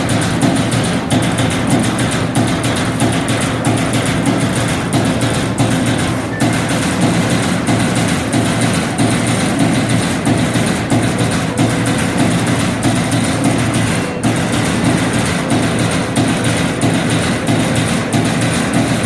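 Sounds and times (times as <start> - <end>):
punch press punching: 0.0 - 19.0.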